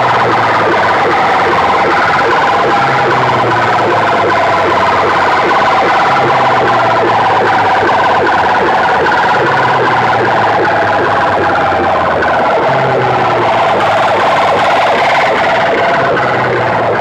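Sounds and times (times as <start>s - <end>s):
siren-like electronic music: 0.0s - 17.0s.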